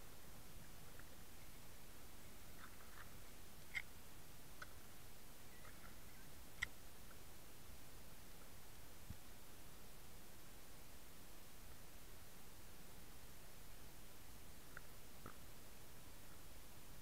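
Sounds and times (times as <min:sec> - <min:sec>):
faint ticks and chirps: 0:00.0 - 0:17.0.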